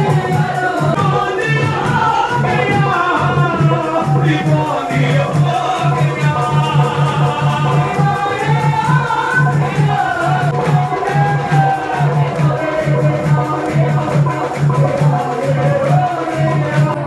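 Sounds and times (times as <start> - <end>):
person singing devotional song: 0.0 - 17.0
rattling shaker: 0.0 - 17.0.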